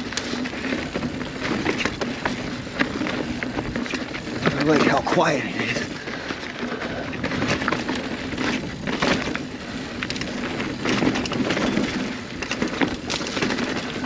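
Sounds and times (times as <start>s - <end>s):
bike tyres rolling over dirt: 0.0s - 14.0s
gravel and twigs cracking: 0.0s - 14.0s.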